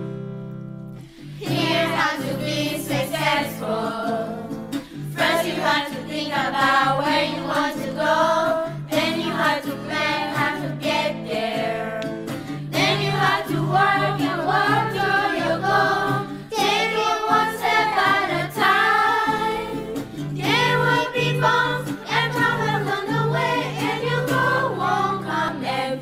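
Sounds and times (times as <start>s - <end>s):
instrumental accompaniment: 0.0s - 25.4s
group of voices singing: 1.4s - 26.0s.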